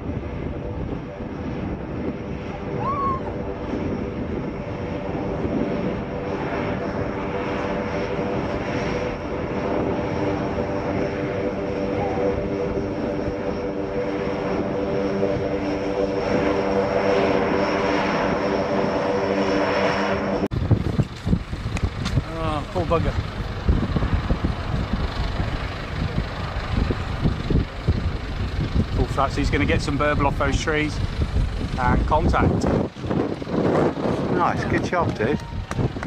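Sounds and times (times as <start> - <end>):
turboprop propeller drone: 0.0 - 36.0.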